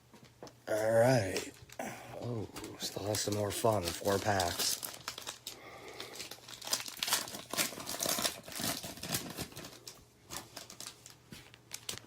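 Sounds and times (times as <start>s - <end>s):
foil wrapper crinkling and tearing: 0.8s - 12.0s.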